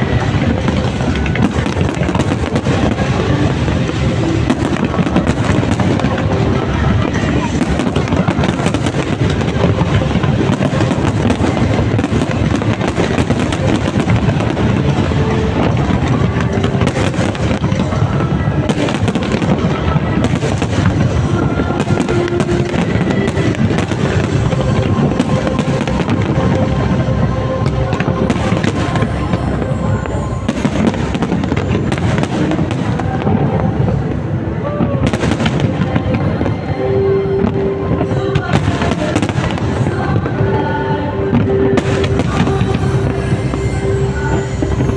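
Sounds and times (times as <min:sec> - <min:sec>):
fireworks bursting and crackling: 0:00.0 - 0:44.9
music playing: 0:00.0 - 0:44.9.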